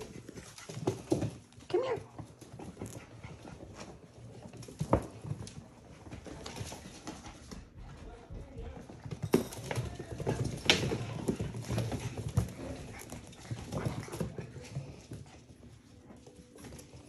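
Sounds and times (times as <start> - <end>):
puppy paws pattering on wooden floor: 0.0 - 17.0.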